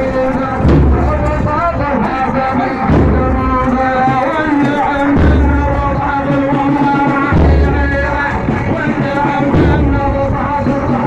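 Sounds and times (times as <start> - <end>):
deep bass beat: 0.0 - 11.0
man chanting: 0.0 - 11.0.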